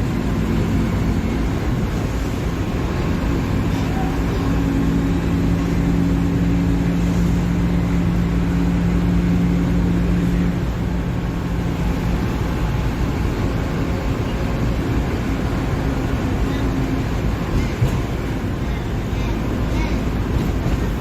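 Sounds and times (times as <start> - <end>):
bus diesel engine running: 0.0 - 21.0
steady engine hum: 0.0 - 21.0.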